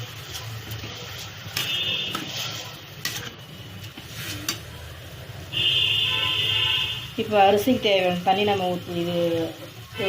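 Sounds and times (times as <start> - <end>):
light sizzle: 0.0 - 5.7, 6.9 - 10.0.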